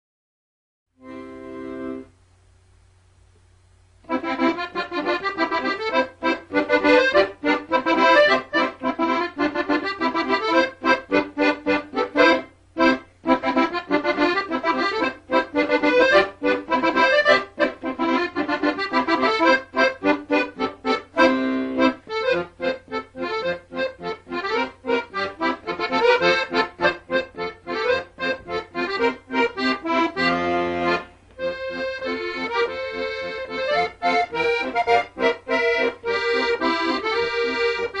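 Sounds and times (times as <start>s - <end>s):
lively instrumental music: 1.0s - 2.1s, 4.0s - 38.0s.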